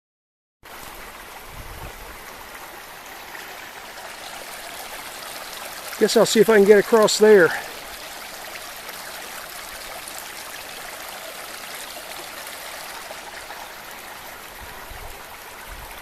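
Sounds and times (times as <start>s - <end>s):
creek water rushing: 0.7s - 16.0s.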